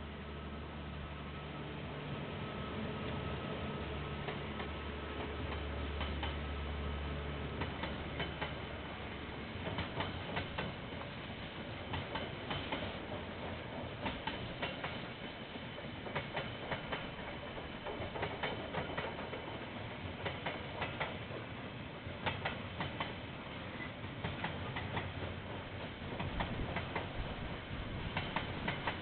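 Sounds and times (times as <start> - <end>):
train rumble: 0.0 - 29.0
train wheels clicking: 4.2 - 6.6, 7.5 - 29.0.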